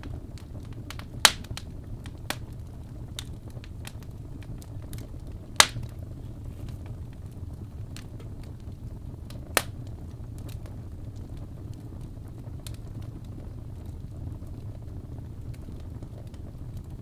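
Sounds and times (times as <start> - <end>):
fireplace crackling: 0.0 - 17.0
low steady rumble: 0.0 - 17.0.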